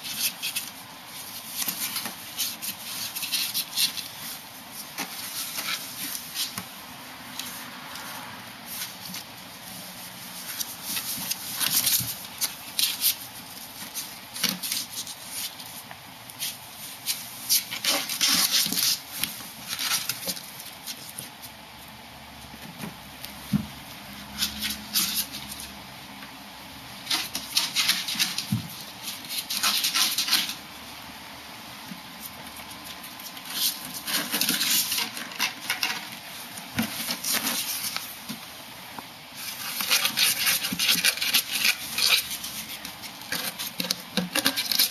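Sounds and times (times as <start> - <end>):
claws scratching on cardboard: 0.0 - 21.4, 27.0 - 30.6, 32.2 - 38.4, 39.3 - 44.9.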